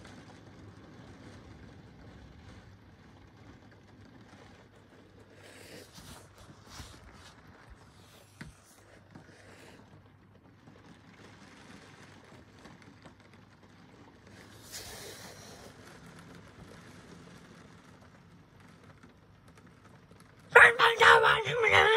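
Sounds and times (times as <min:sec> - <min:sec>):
rain through window glass: 0:00.0 - 0:21.9.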